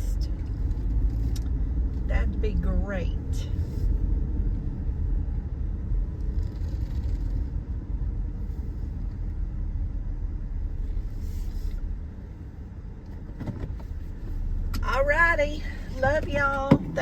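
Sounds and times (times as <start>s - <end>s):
car rumble from inside cabin: 0.0s - 17.0s.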